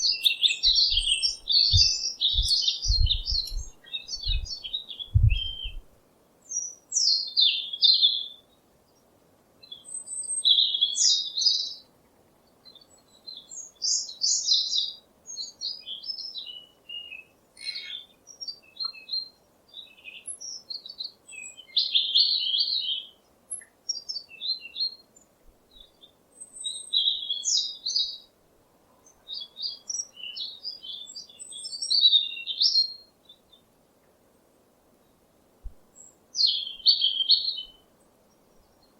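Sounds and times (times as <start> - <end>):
songbird chirping and warbling: 0.0 - 8.6, 12.6 - 28.3, 29.0 - 33.7, 35.9 - 38.9.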